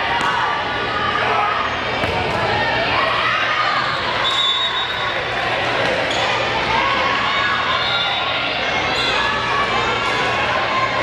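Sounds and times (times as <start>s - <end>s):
spectators cheering and shouting: 0.0s - 11.0s.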